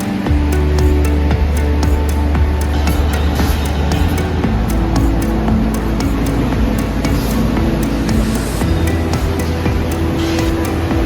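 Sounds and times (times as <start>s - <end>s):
music with steady beat and bass: 0.0s - 11.0s.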